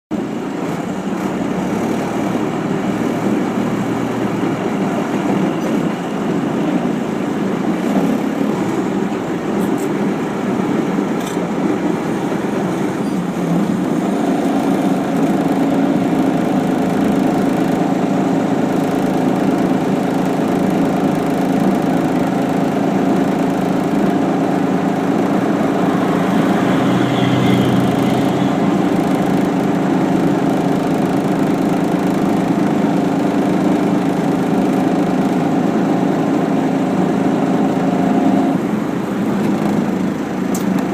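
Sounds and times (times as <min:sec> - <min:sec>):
engine running steadily: 0:00.1 - 0:40.9.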